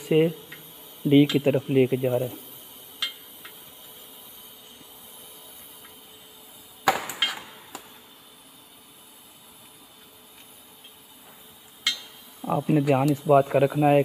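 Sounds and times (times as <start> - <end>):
welding arc hissing: 0.0 - 14.0.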